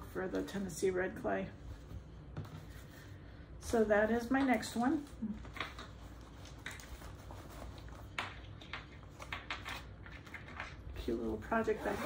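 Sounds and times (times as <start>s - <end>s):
rustling of craft materials: 0.0s - 12.0s.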